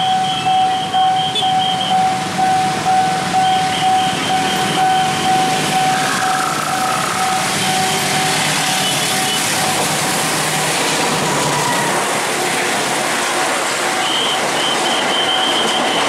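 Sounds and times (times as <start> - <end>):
high wheel squeal: 0.0 - 10.1, 11.1 - 12.4, 14.0 - 16.0
train passing at speed: 0.0 - 16.0.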